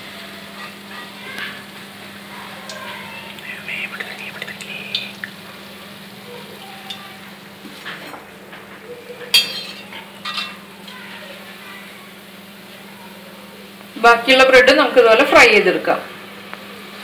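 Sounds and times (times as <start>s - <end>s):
bread frying in hot oil: 0.0s - 17.0s.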